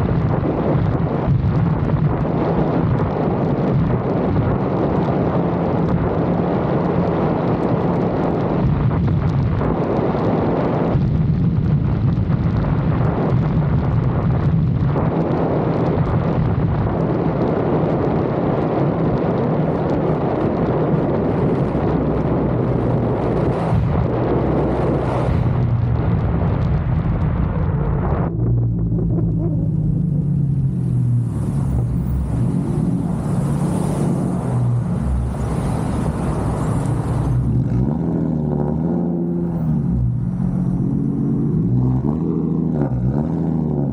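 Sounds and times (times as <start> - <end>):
car engine low hum: 0.0 - 43.9
road noise: 0.0 - 43.9
wind noise on microphone: 0.0 - 43.9.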